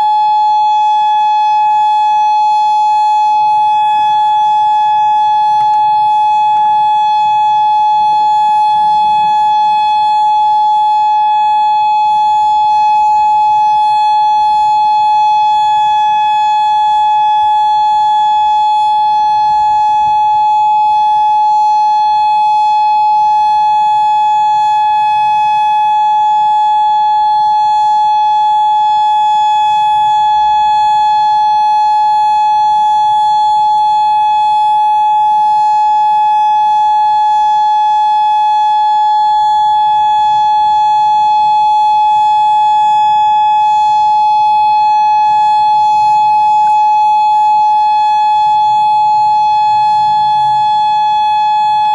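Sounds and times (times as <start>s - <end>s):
warning siren steady tone: 0.0s - 51.9s.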